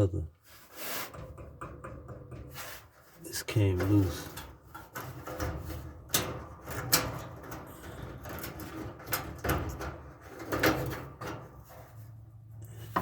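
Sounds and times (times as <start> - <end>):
metal clicks and scrapes: 0.6 - 13.0.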